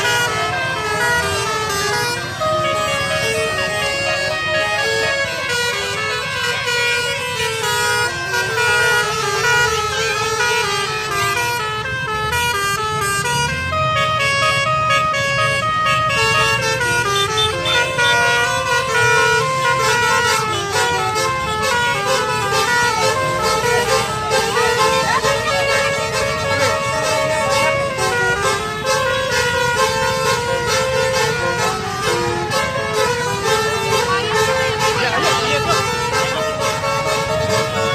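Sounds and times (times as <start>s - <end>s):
multi-tone bus air horn melody: 0.0s - 37.9s.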